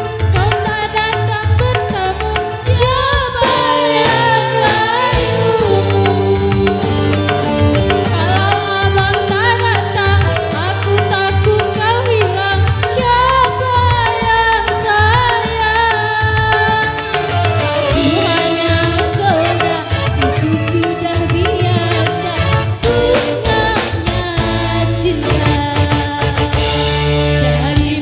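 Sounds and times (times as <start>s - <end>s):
driving drum beat: 0.0s - 28.0s
dangdut music with ornamented melody: 3.5s - 15.6s, 16.4s - 27.7s
heavy bass: 3.6s - 28.0s.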